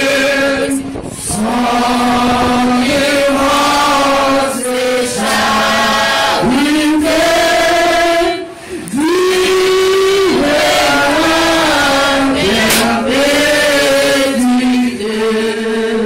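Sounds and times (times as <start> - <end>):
group singing slow chant: 0.0 - 16.0.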